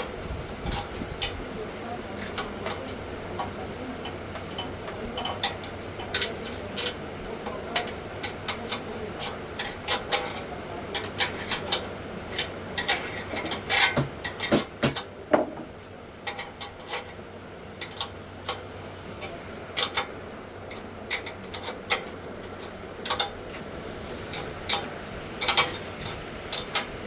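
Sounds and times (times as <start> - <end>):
clicks and knocks of parts: 0.7 - 17.2, 17.8 - 23.7, 24.3 - 27.0.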